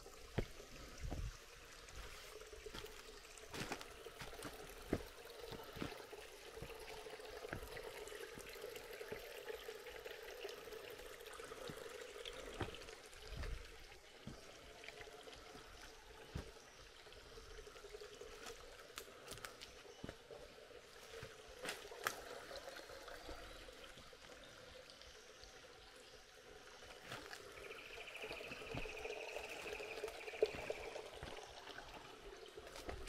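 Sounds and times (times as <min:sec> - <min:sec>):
water trickling over rocks: 0:00.0 - 0:33.0.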